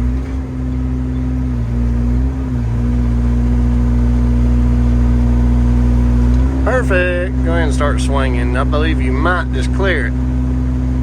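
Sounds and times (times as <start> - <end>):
excavator engine under hydraulic load: 0.0 - 11.0.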